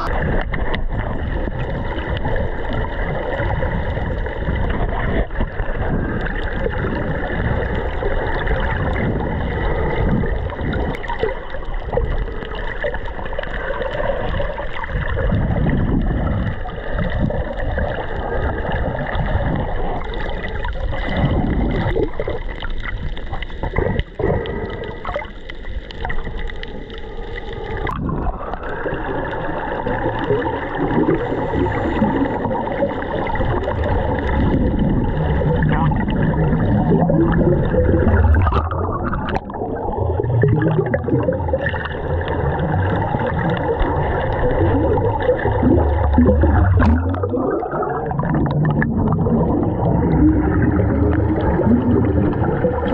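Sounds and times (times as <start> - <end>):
rush of exhaled bubbles: 0.0 - 52.9
underwater gurgling and bubbling: 0.0 - 52.9.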